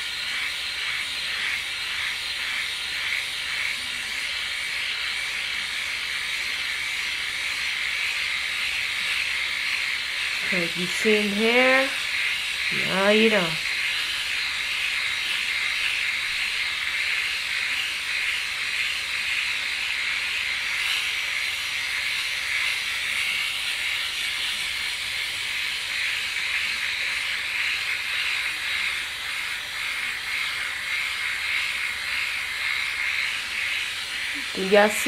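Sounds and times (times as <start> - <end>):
electric shaver hissing on skin: 0.0 - 35.0.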